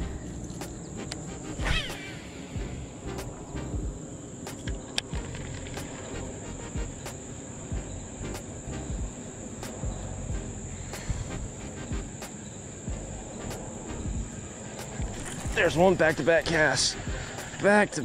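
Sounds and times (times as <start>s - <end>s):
high-pitched insect buzz: 0.0s - 17.6s.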